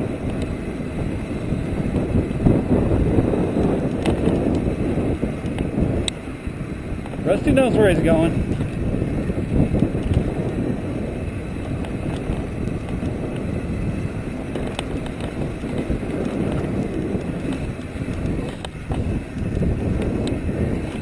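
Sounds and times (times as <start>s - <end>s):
bike rattling: 0.0s - 21.0s
bike tyres rumbling on gravel: 0.0s - 21.0s
wind buffeting microphone: 0.0s - 21.0s.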